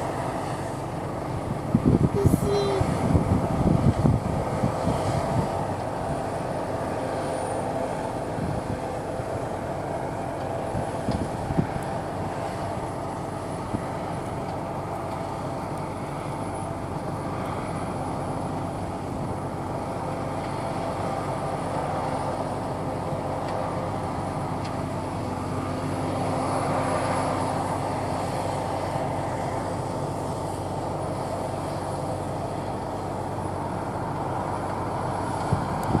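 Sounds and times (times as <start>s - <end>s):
combine harvester machinery drone: 0.0s - 36.0s.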